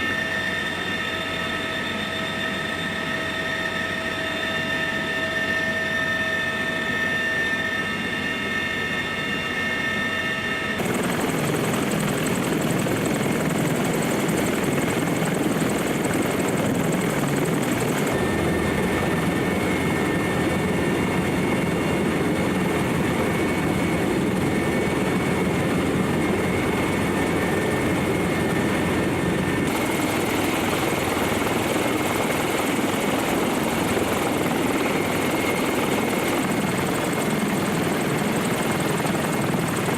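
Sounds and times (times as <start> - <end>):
helicopter rotor and engine: 0.0 - 39.9
high turbine whine: 0.0 - 39.9.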